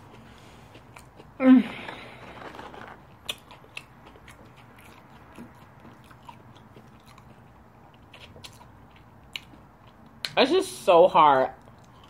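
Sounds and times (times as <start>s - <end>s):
person chewing crunchy food: 0.0s - 10.2s, 11.6s - 12.0s.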